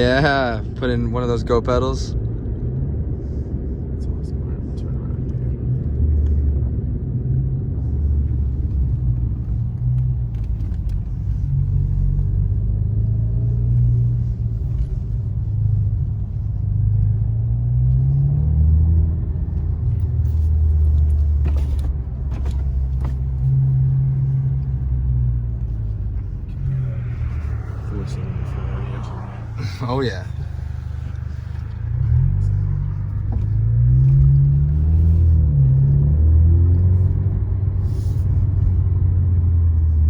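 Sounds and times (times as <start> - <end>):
car engine rumble while driving: 0.0 - 40.0.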